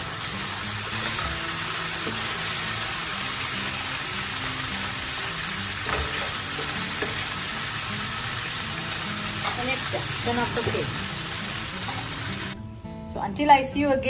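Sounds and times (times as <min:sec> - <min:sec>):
food sizzling in a pan: 0:00.0 - 0:12.6.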